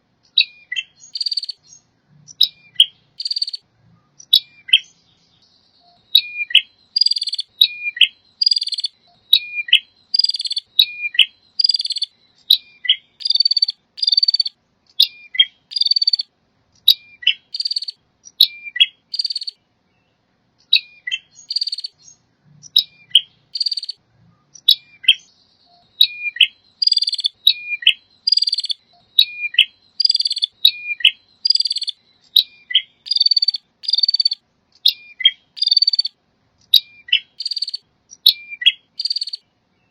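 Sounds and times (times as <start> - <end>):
bird chirping high-pitched phrases: 0.3 - 39.9.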